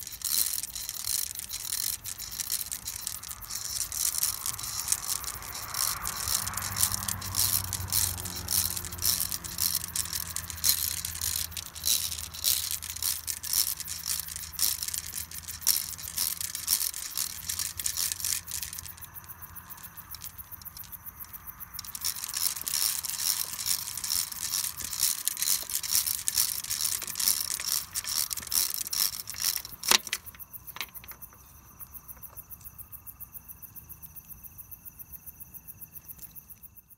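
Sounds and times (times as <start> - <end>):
plastic bead chain clattering: 0.0 - 31.4
crickets chirping: 0.0 - 36.9.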